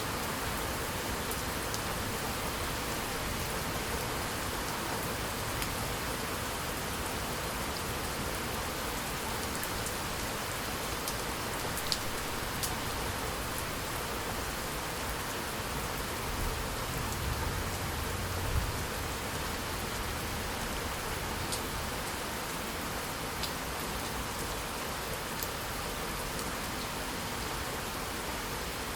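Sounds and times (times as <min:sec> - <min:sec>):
steady rainfall: 0:00.0 - 0:28.9.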